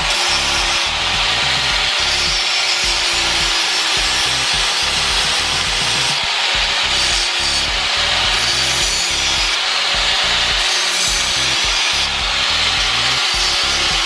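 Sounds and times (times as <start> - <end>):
angle grinder grinding metal: 0.0 - 14.0.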